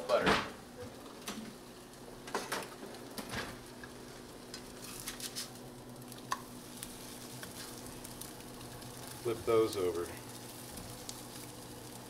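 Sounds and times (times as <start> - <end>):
eggs sizzling in a pan: 0.9 - 12.0.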